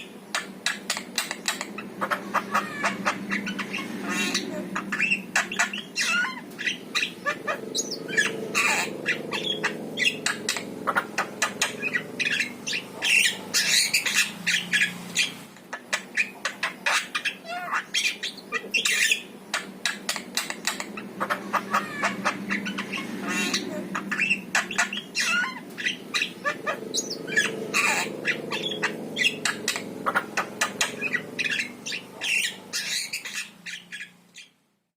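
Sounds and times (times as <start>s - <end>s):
myna whistling and squawking: 0.0s - 34.6s.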